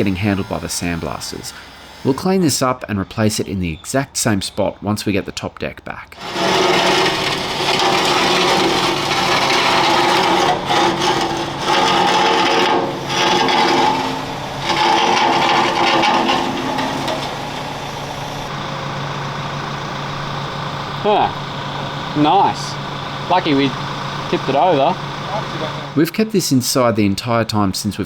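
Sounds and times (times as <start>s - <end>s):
power tool grinding metal: 0.0s - 3.3s, 6.2s - 26.0s.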